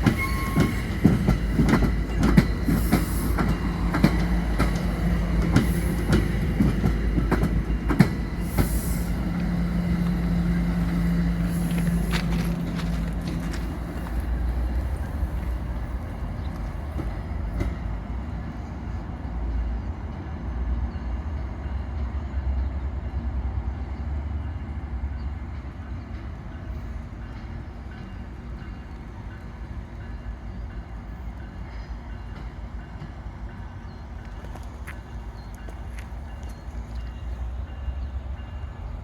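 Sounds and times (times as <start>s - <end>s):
diesel train rumbling on tracks: 0.0s - 39.0s.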